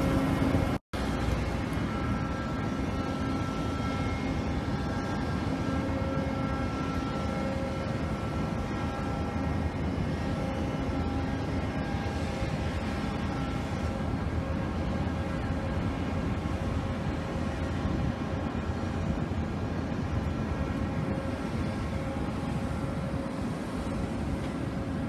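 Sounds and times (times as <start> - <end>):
low machinery rumble: 0.0 - 25.0
steady whining tones: 0.0 - 25.0.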